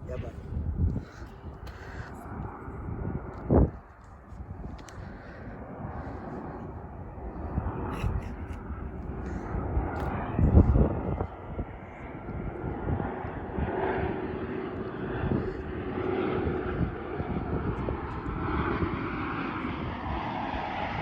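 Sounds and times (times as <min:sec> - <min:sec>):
jet airliner engines passing: 0:00.0 - 0:21.0.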